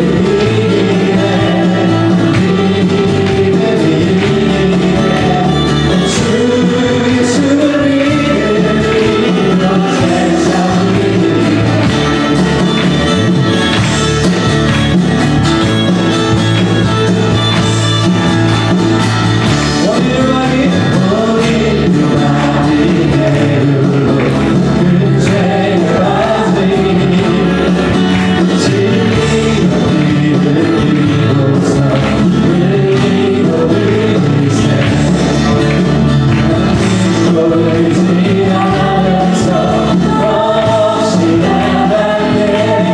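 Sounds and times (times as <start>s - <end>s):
drums and cymbals: 0.0s - 42.9s
voices singing: 0.0s - 42.9s
worship band playing: 0.0s - 42.9s.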